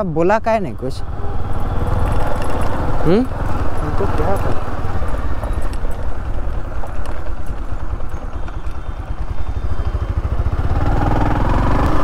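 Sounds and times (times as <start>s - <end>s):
motorcycle engine running: 0.5s - 12.0s.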